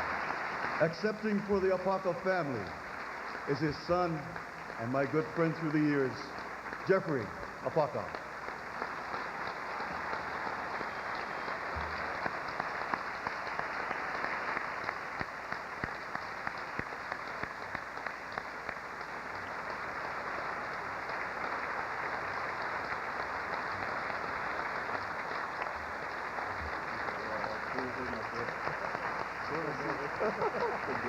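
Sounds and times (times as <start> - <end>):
audience applause: 0.0 - 31.0.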